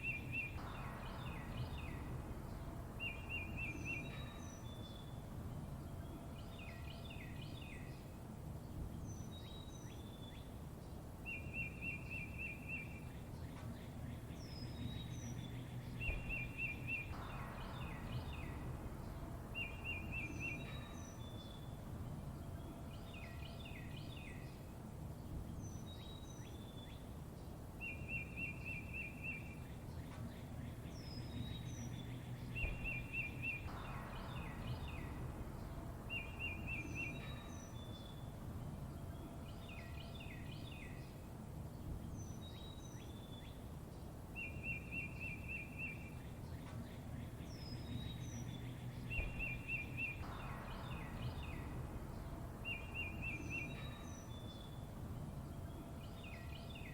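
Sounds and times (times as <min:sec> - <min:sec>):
low background noise: 0:00.0 - 0:56.9
songbirds chirping: 0:00.0 - 0:56.9.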